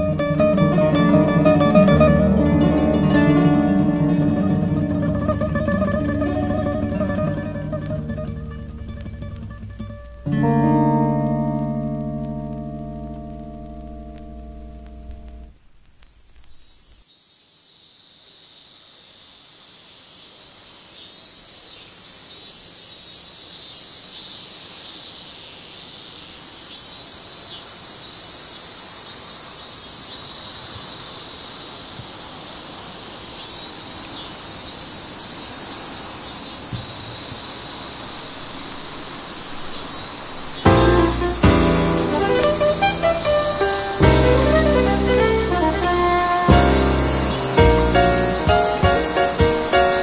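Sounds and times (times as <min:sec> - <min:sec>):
insects shrilling: 0:00.0 - 0:50.0
stuttering pulsed insect calls: 0:00.0 - 0:50.0.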